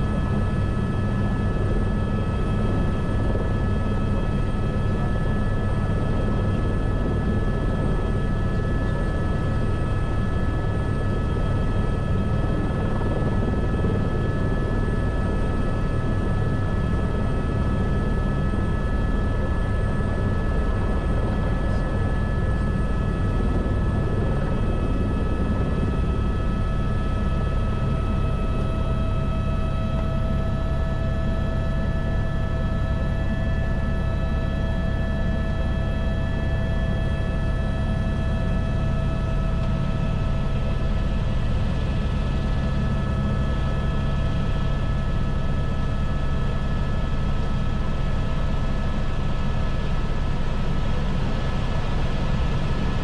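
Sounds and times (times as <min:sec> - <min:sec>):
helicopter rotor rumble: 0:00.0 - 0:53.0
turbine whine: 0:00.0 - 0:53.0.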